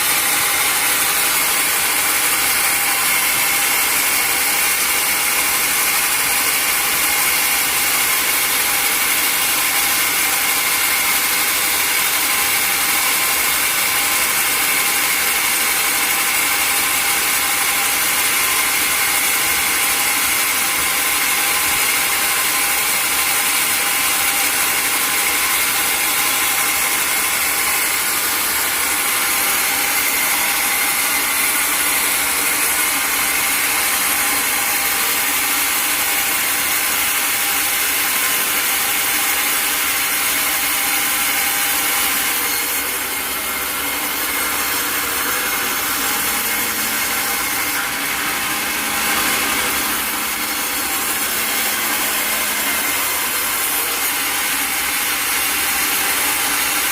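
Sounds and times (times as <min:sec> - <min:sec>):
sawmill saw whining: 0:00.0 - 0:56.9.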